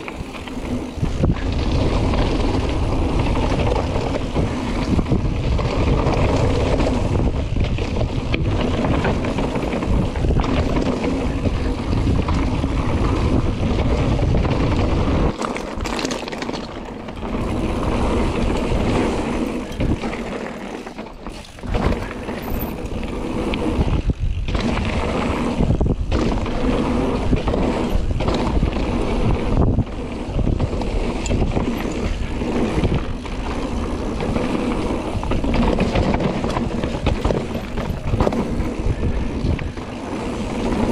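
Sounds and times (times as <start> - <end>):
wind rushing over microphone: 0.0 - 15.9, 16.8 - 20.7, 21.3 - 40.9
bike knocks and rattles: 0.0 - 40.9
bike tyre noise: 0.0 - 40.9.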